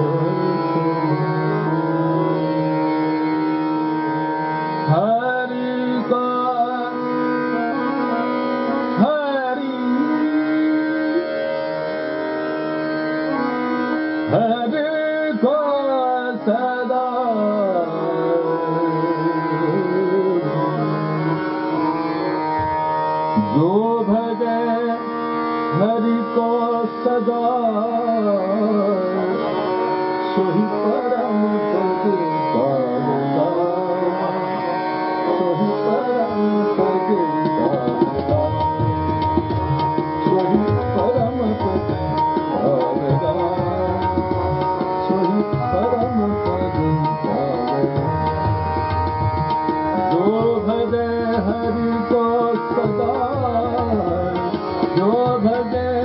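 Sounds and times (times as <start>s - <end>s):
man singing ornamented phrases: 0.0s - 2.9s, 4.8s - 11.6s, 14.3s - 22.4s, 23.4s - 49.2s, 49.9s - 56.0s
tabla playing: 0.0s - 56.0s
tanpura drone: 0.0s - 56.0s.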